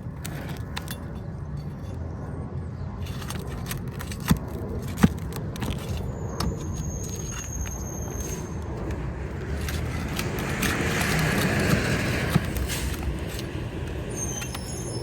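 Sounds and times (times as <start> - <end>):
metal tool scraping shingles: 0.0 - 2.0, 3.0 - 15.0.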